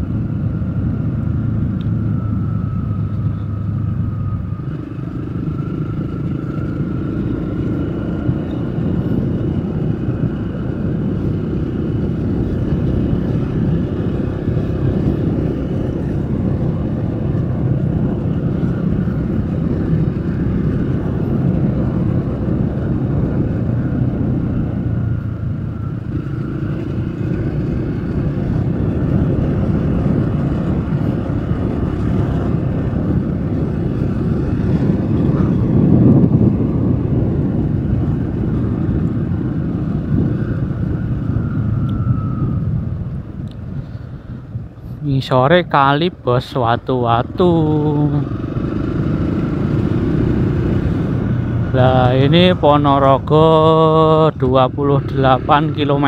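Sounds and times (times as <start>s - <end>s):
road and wind noise: 0.0s - 56.0s
vehicle engine hum: 0.0s - 56.0s.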